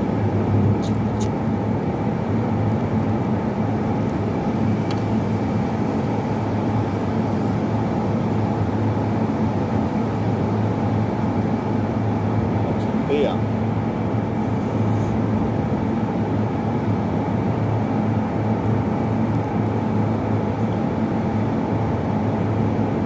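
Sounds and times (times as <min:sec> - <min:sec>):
motor running low drone: 0:00.0 - 0:23.0.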